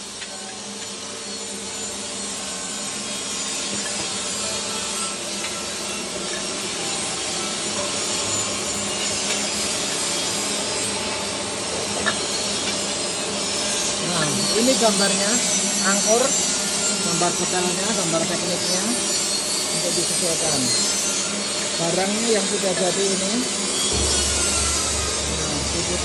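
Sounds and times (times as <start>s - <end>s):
rasping hiss: 1.0s - 26.0s.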